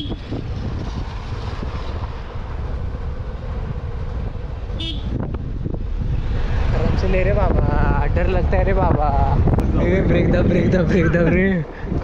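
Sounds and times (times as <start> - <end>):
motorbike tyre rumble: 0.0 - 11.0
wind buffeting microphone: 0.0 - 12.0.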